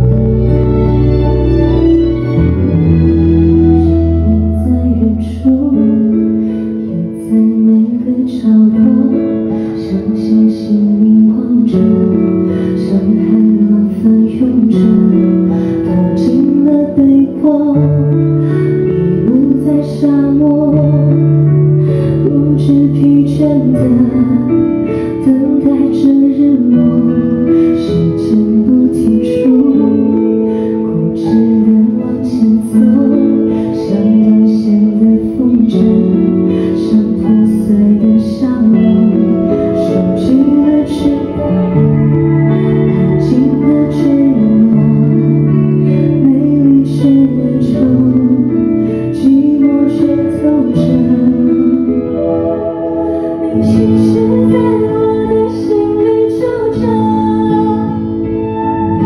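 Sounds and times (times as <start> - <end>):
instrumental accompaniment: 0.0 - 59.0
woman singing pop ballad: 3.7 - 59.0.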